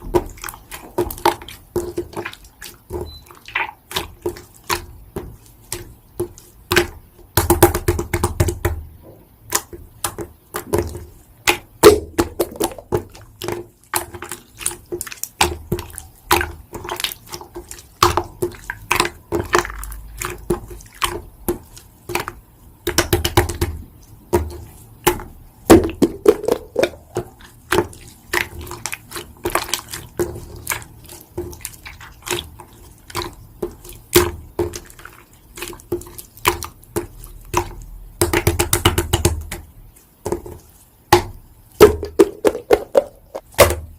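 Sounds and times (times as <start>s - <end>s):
slime squelching by hand: 0.0s - 43.9s.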